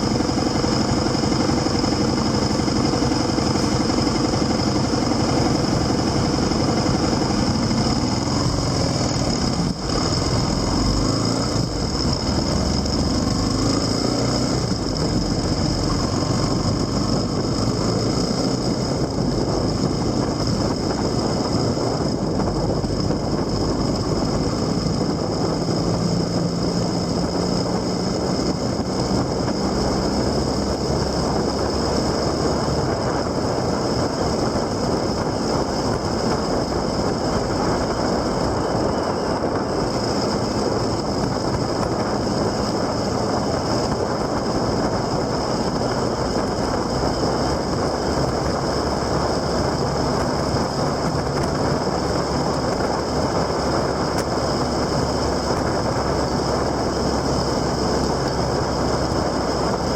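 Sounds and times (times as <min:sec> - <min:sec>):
motorcycle engine hum: 0:00.0 - 0:59.9
wind and road noise: 0:00.0 - 0:59.9.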